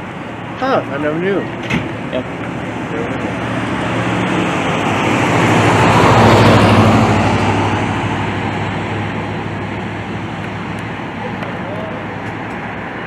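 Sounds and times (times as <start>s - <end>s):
low engine hum: 0.0s - 13.0s
vehicle passing by: 0.0s - 13.0s.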